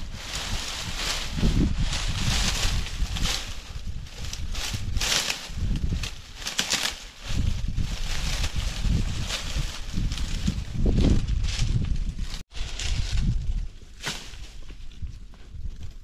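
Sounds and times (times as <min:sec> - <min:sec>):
dry leaves and twigs rustling: 0:00.0 - 0:16.0
wind rumble on microphone: 0:00.0 - 0:16.0.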